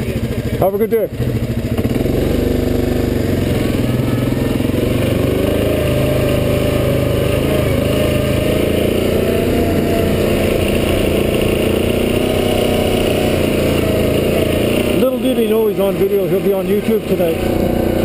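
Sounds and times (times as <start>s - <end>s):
atv engine pulling away: 0.0s - 18.0s.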